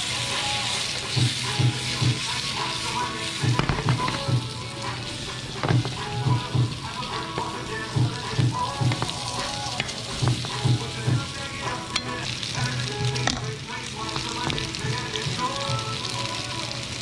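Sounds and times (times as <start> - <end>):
potatoes sizzling in a frying pan: 0.0 - 17.0.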